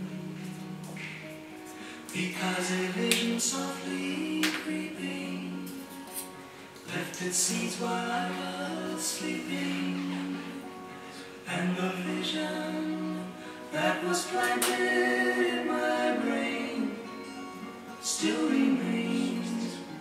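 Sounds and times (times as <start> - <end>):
music with singing: 0.0 - 20.0.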